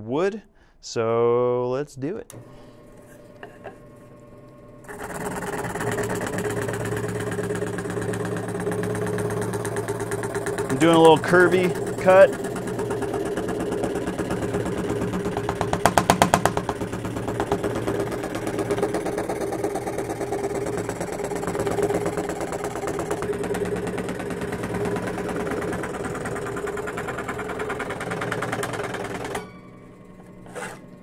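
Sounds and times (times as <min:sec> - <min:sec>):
scroll saw cutting plywood: 0:02.3 - 0:04.0, 0:04.8 - 0:31.0
saw rattling: 0:04.8 - 0:31.0.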